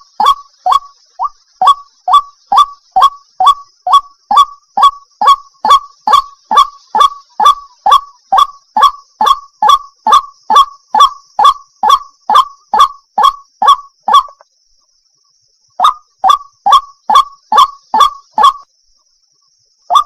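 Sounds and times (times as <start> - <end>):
waterhen calling: 0.0 - 14.4, 15.8 - 18.6.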